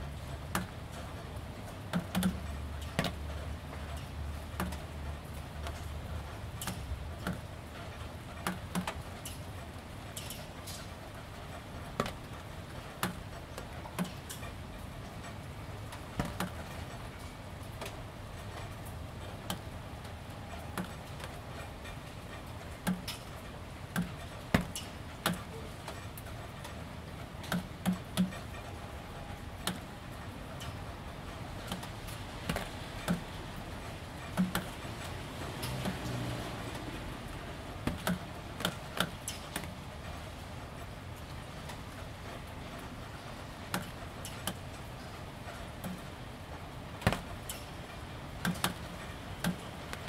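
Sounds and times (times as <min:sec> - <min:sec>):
raindrops ticking on plastic roof: 0:00.0 - 0:50.0.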